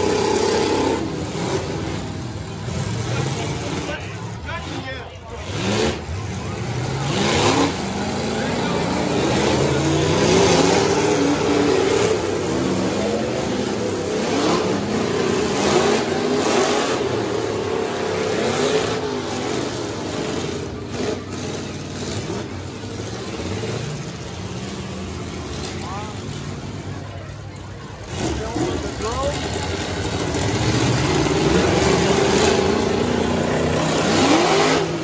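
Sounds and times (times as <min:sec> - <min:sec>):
truck engines revving: 0:00.0 - 0:35.0.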